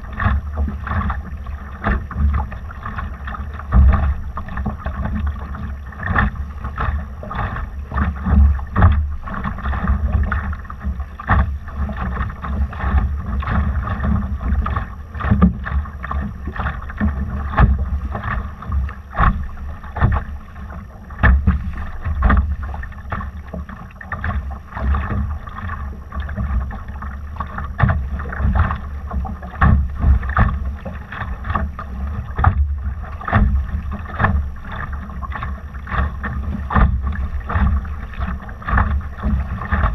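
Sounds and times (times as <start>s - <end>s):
water splashing against boat hull: 0.0s - 39.9s.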